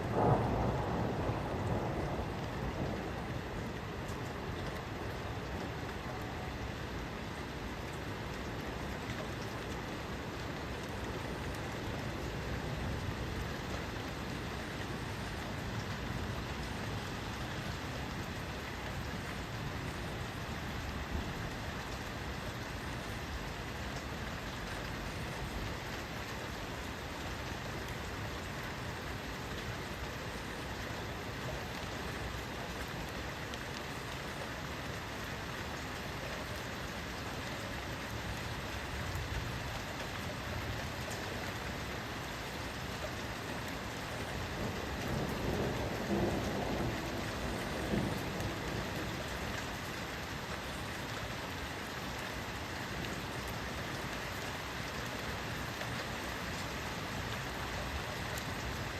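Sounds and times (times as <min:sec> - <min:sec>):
rain falling: 0:00.0 - 0:58.9.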